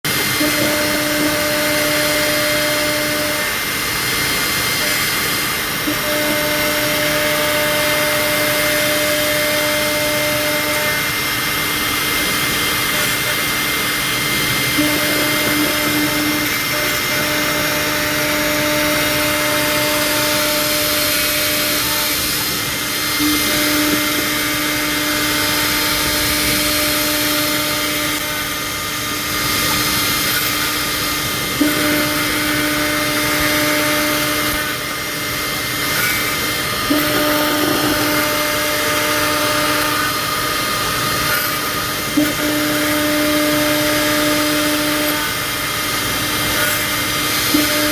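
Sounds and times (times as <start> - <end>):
humming machine tone: 0.1 - 47.9.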